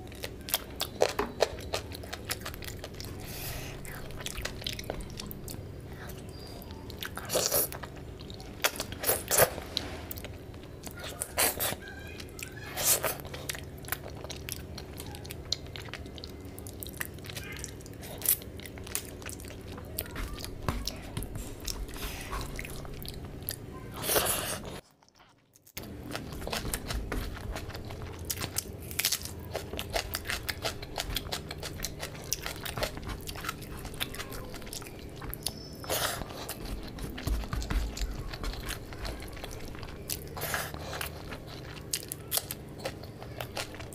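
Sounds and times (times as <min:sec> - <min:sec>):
chewing and mouth smacks: 0:00.0 - 0:43.9.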